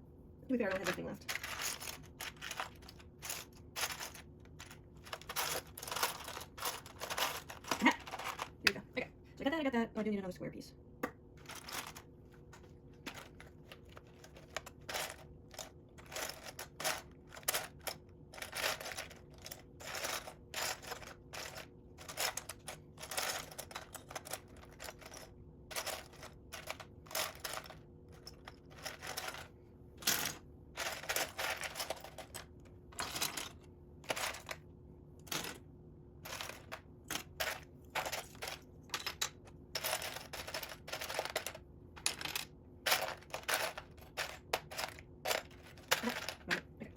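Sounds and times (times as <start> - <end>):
plastic bricks clicking and rattling: 0.7 - 8.8, 11.4 - 34.6, 36.2 - 46.7.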